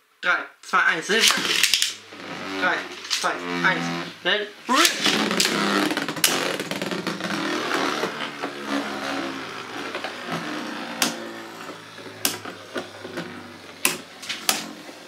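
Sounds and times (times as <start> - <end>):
spinning tops whirring and grinding: 1.2 - 3.9, 4.7 - 15.0.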